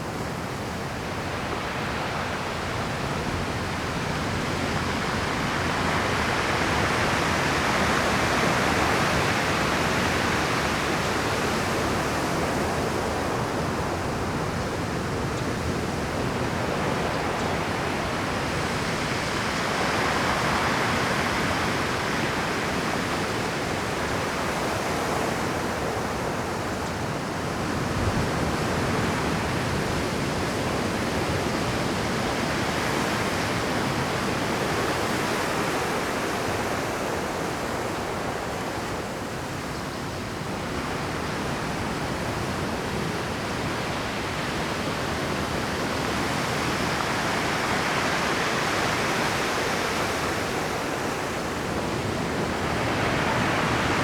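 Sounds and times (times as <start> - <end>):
surf washing over rocks: 0.4 - 54.0.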